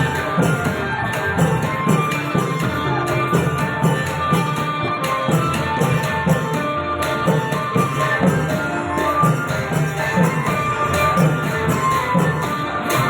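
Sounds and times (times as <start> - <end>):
cymbals: 0.0 - 13.0
drums keeping steady beat: 0.0 - 13.0
melody of held notes: 0.0 - 13.0.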